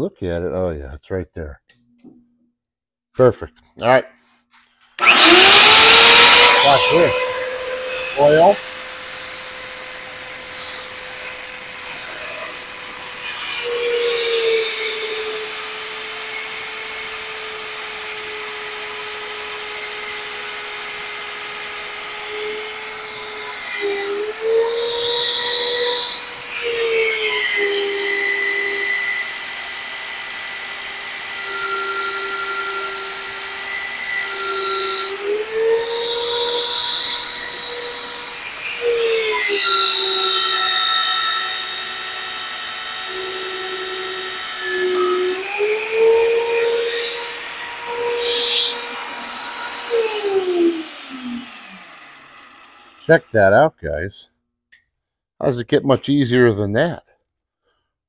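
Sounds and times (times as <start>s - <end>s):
magnetic drill motor whine: 5.0s - 53.1s.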